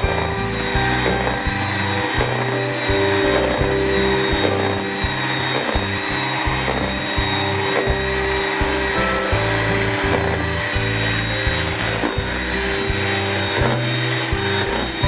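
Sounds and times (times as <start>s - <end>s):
background music with beat: 0.0s - 15.0s
high motor whine: 0.0s - 15.0s.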